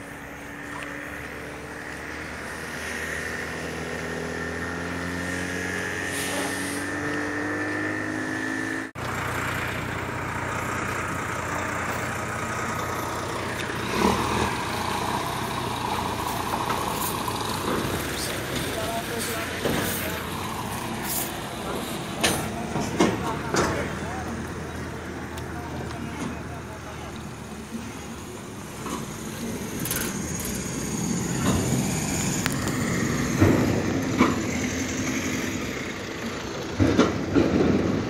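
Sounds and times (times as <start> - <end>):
steady engine hum: 0.0 - 38.0
vehicle engines accelerating: 0.0 - 38.0.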